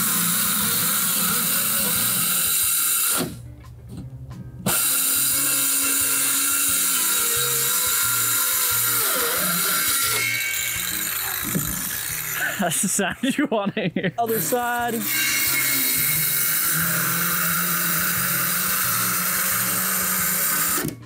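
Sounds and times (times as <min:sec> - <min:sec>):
circular saw cutting plywood: 0:00.0 - 0:03.4, 0:04.7 - 0:12.7, 0:14.2 - 0:21.0.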